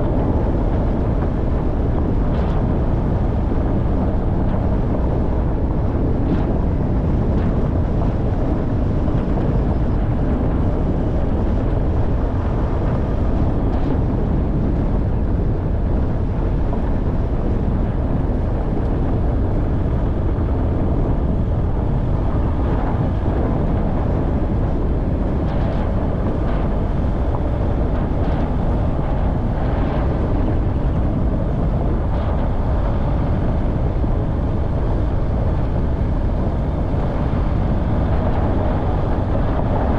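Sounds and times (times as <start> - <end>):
vehicle engine and tyres rumbling: 0.0 - 39.9.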